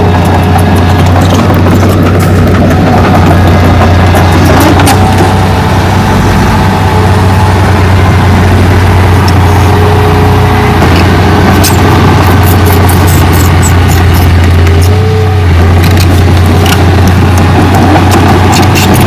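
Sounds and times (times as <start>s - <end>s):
heavy diesel machine humming: 0.0s - 19.0s.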